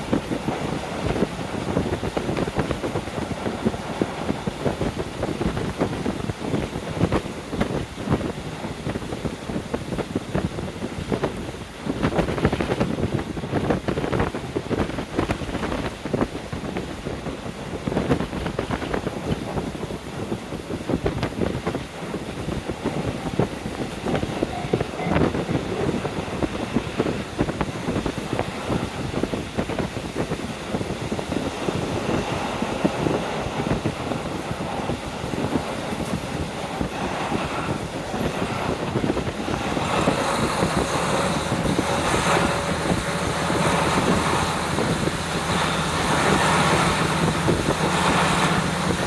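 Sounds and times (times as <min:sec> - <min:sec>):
train running noise: 0:00.0 - 0:49.0
wind buffeting microphone: 0:00.0 - 0:49.0.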